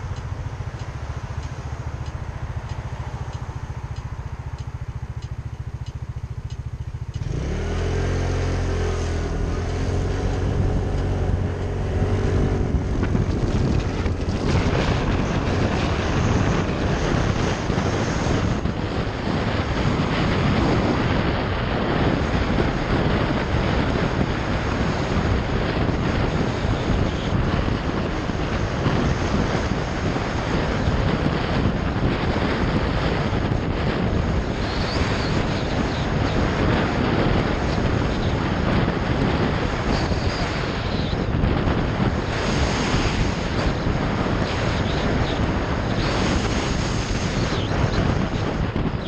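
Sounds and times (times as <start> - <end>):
motorbike engine running: 0.0 - 49.0
wind rushing over microphone: 0.0 - 49.0.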